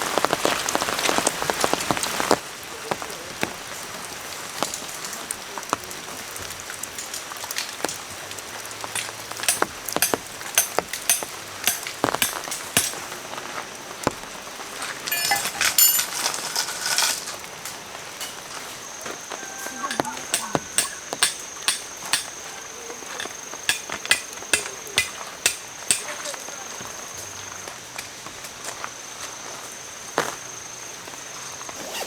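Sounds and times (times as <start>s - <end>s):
raindrops tapping: 0.0s - 28.5s
rain hissing: 0.0s - 31.8s.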